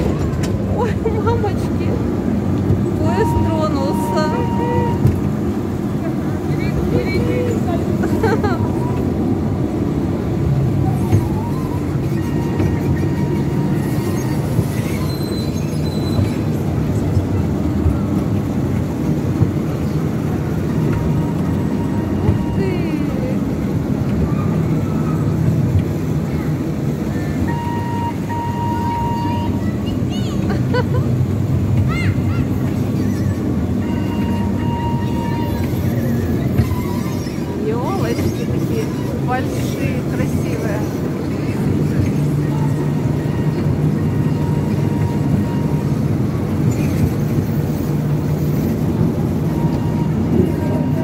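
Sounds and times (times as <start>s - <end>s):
ride-on train rumbling: 0.0s - 51.0s.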